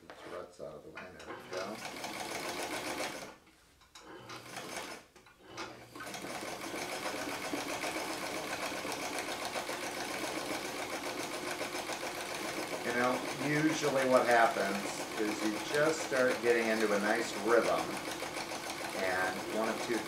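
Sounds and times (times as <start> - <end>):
electric sewing machine stitching: 1.3 - 3.4, 4.0 - 20.0.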